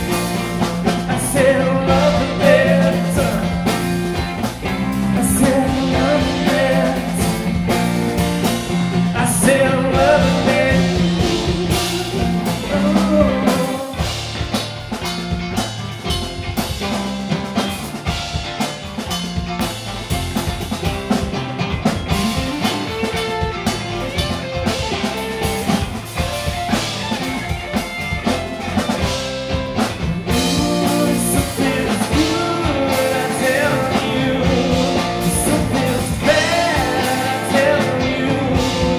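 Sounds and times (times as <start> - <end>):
bass guitar: 0.0 - 38.9
drum kit: 0.0 - 38.9
electric guitars: 0.0 - 38.9.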